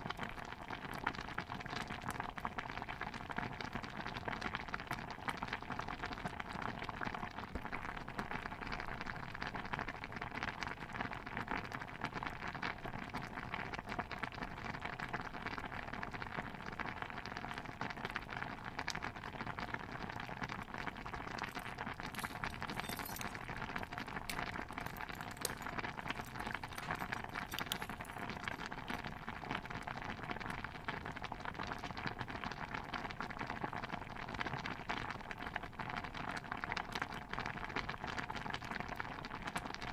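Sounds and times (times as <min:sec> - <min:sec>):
stew bubbling in a pot: 0:00.0 - 0:39.9.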